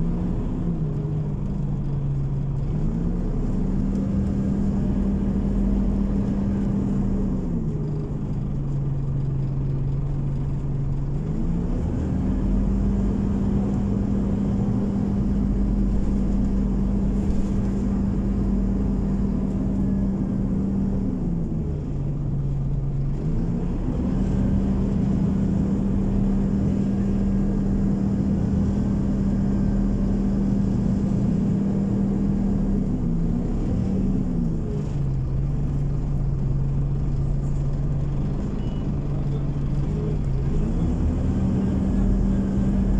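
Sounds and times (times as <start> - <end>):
bus engine humming: 0.0 - 42.9.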